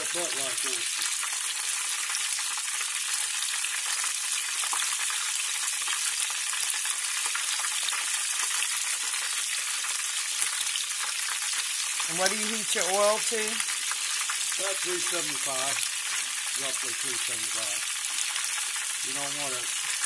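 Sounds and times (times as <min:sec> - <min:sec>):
oil sizzling and crackling: 0:00.0 - 0:20.0.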